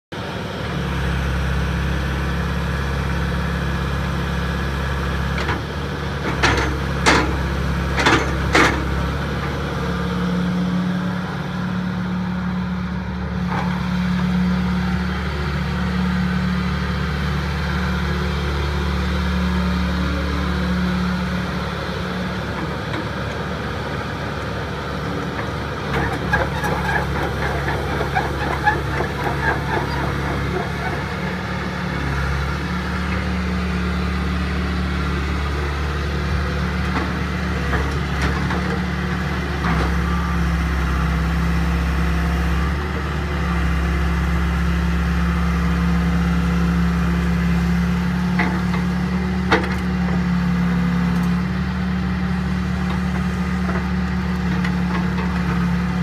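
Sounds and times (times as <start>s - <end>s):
excavator diesel engine running: 0.1s - 56.0s.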